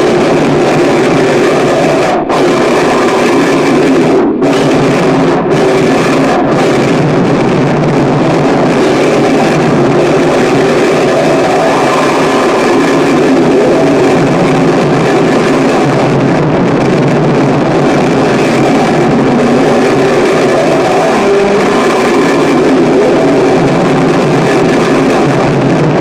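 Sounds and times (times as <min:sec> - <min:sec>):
harsh distorted noise music: 0:00.0 - 0:26.0.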